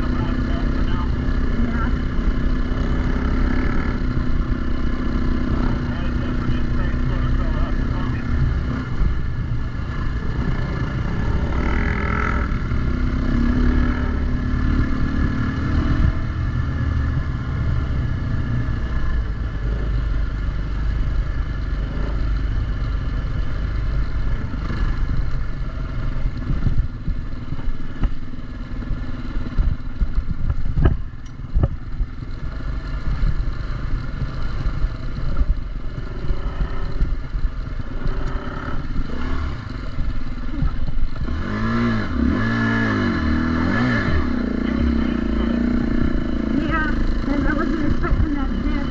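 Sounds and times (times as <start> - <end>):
dirt bike engine revving: 0.0 - 31.0, 31.9 - 48.9.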